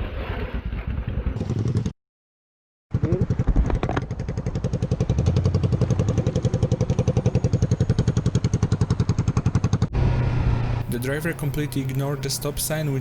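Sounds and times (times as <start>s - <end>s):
motorcycle engine running: 1.1s - 1.9s, 2.9s - 13.0s.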